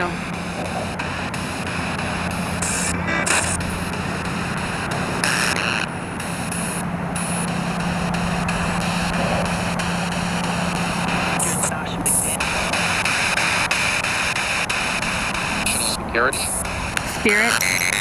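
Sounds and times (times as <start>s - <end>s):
low hum: 0.0s - 18.0s
radio static scanning: 0.0s - 18.0s.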